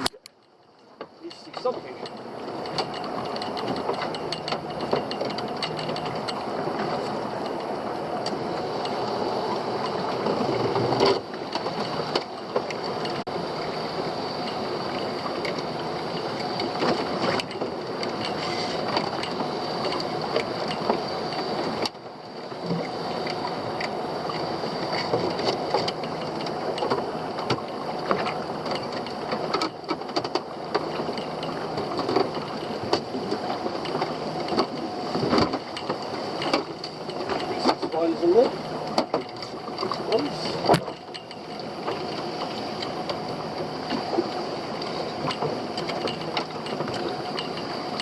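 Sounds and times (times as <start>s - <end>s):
boat engine running: 0.0s - 48.0s
knocks and clatter on board: 0.8s - 9.0s, 9.8s - 13.3s, 14.5s - 48.0s.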